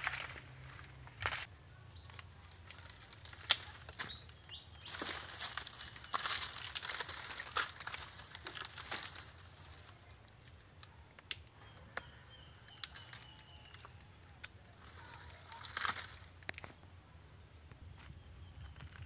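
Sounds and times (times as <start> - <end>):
dry palm fronds rustling: 0.0 - 16.8.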